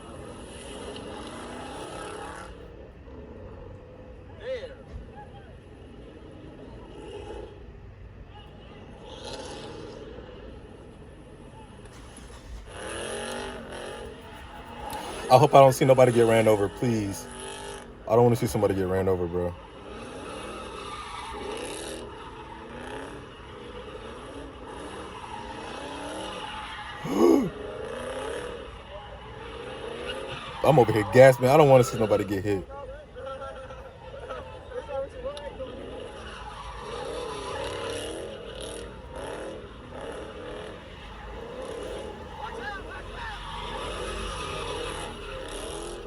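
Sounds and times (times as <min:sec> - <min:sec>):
car engines revving: 0:00.0 - 0:03.4, 0:09.0 - 0:32.7, 0:35.5 - 0:46.0.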